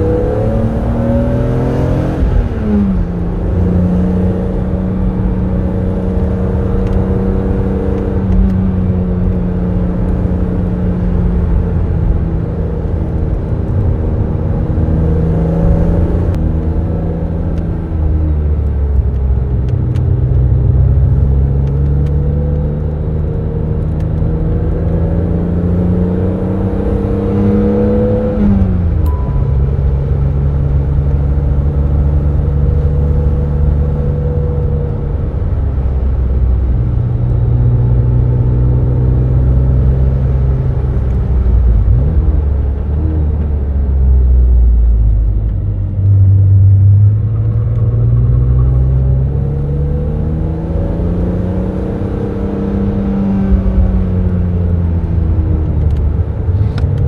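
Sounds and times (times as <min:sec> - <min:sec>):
car engine revving: 0:00.0 - 0:18.0, 0:20.0 - 0:35.7, 0:36.4 - 0:57.0.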